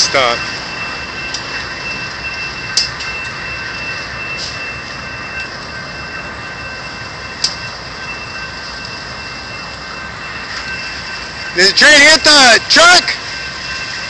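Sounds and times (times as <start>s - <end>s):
high-pitched whine: 0.0s - 14.0s
train rumble and hiss: 0.0s - 14.0s.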